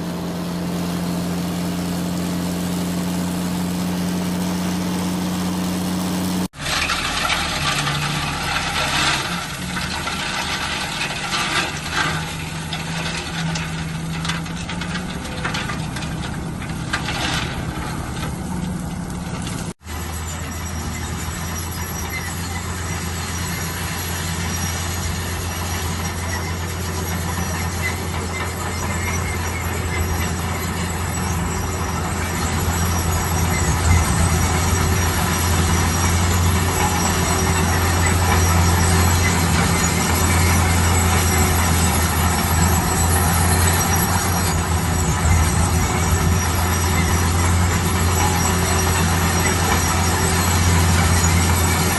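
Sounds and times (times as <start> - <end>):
construction machinery engine drone: 0.0 - 51.9.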